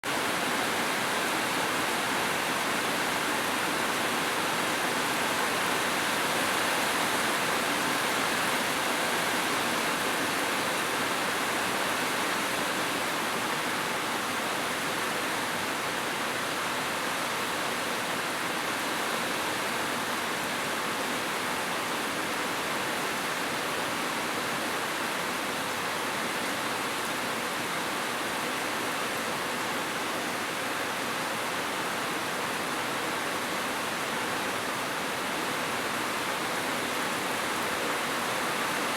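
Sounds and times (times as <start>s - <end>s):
steady rain hiss: 0.1s - 38.9s.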